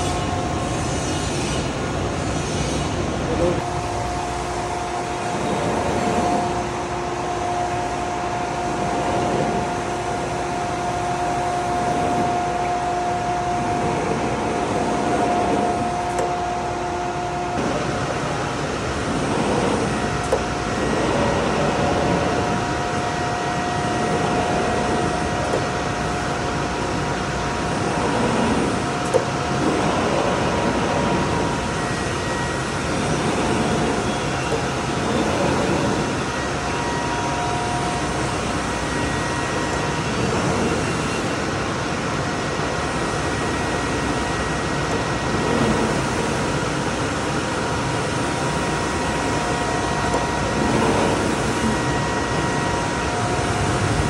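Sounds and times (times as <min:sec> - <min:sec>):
machinery droning with whine: 0:00.0 - 0:54.0.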